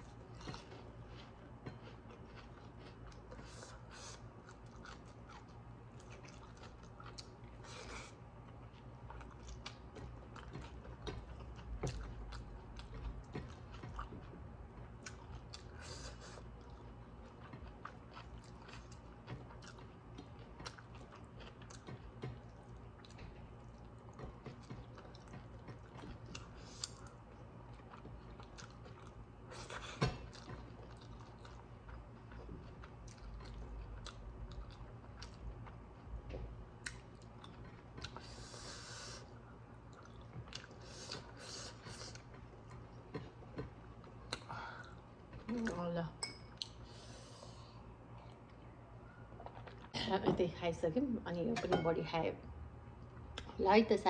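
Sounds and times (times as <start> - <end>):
people chewing food: 0.0 - 50.1.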